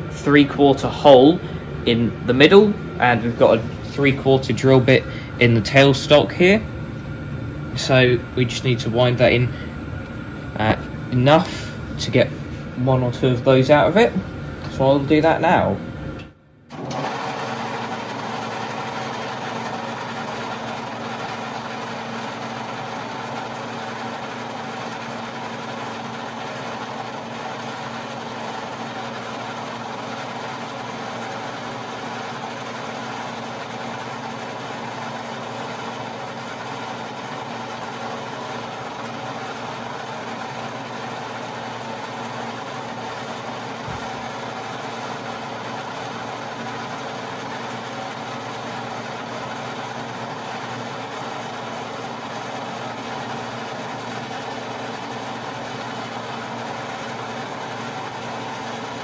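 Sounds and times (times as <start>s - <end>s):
lathe running with hum: 0.0s - 59.0s.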